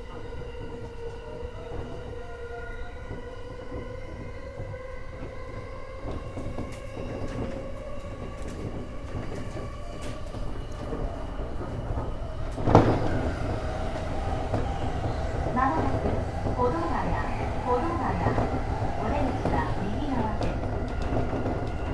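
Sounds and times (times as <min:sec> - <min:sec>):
train rumble: 0:00.0 - 0:21.9.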